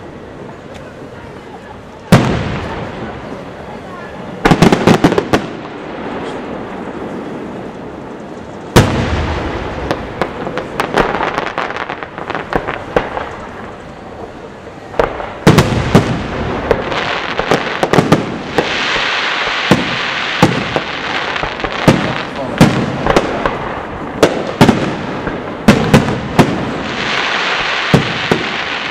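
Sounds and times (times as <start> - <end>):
firework crackling: 0.0 - 28.9
steady hiss: 0.0 - 28.9.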